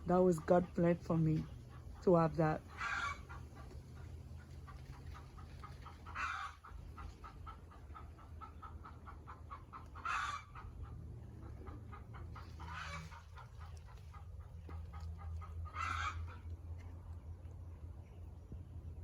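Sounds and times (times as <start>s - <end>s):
chickens clucking: 0.0s - 18.5s
chicken calls: 1.4s - 17.0s.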